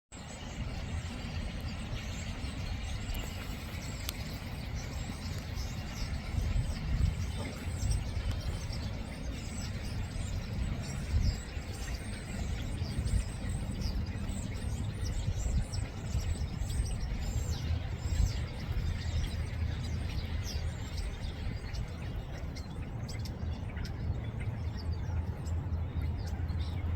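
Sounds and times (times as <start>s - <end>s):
starlings chirping: 0.2s - 26.9s
steady low rumble: 0.2s - 26.9s.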